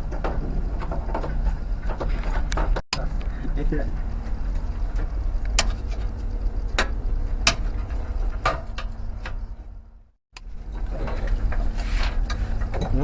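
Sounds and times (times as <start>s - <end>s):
low steady rumble and hum: 0.0s - 13.0s.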